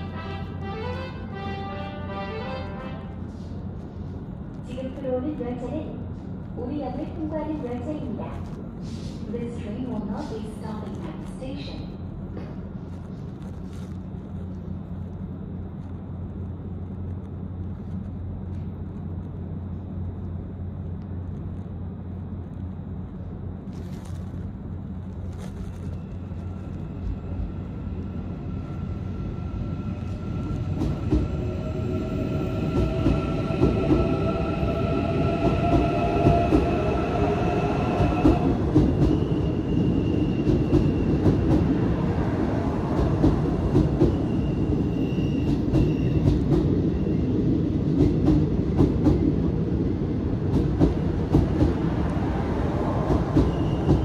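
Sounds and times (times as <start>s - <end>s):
train rail rumble: 0.0s - 54.0s.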